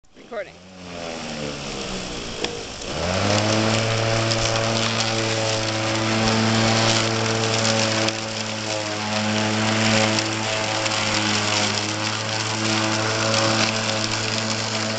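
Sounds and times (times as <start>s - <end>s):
robotic lawn mower motor humming: 0.2s - 14.9s
rushing hiss: 0.6s - 14.9s.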